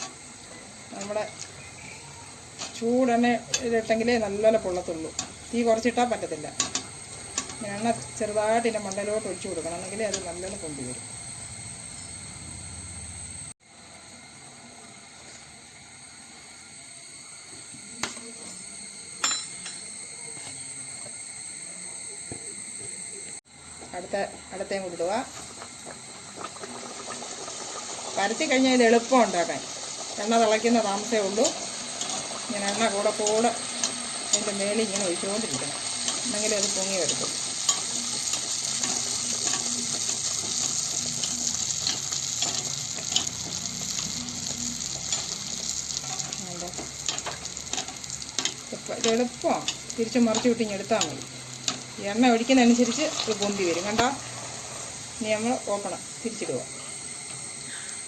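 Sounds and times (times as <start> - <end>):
buns deep-frying in oil: 0.0 - 58.0.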